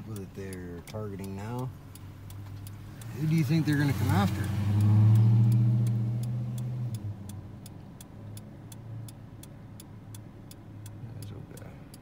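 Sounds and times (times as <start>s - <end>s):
faint low engine hum: 0.0s - 12.0s
turn signal clicking: 0.0s - 12.0s.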